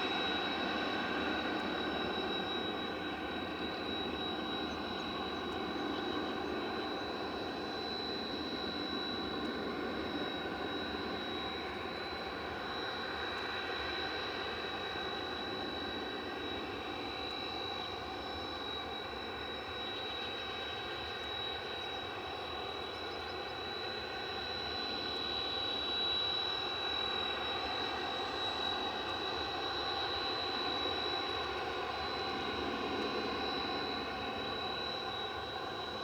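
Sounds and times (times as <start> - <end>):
jet engine whine and rush: 0.0 - 36.0.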